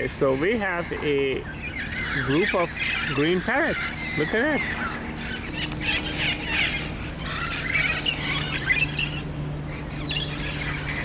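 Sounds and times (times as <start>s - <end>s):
parrots squawking: 0.0s - 11.0s
steady low hum: 0.0s - 11.0s.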